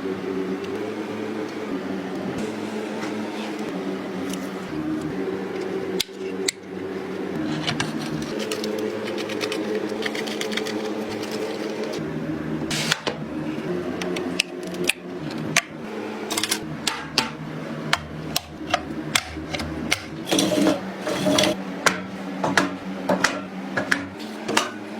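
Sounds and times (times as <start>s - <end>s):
small motor hum: 0.0s - 21.7s.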